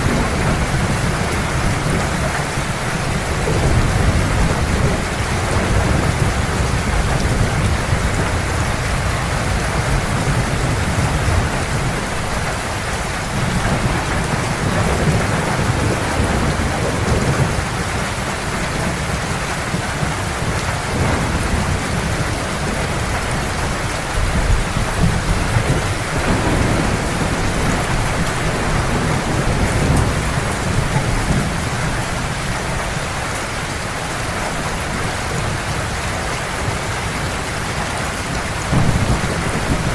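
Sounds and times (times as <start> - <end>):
low rolling thunder: 0.0 - 35.7, 38.2 - 39.9
heavy rain falling: 0.0 - 39.9.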